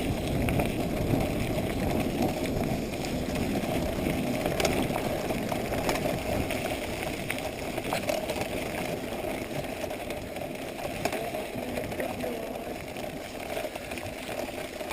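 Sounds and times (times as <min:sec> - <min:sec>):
bicycle rolling over rough trail: 0:00.0 - 0:14.9.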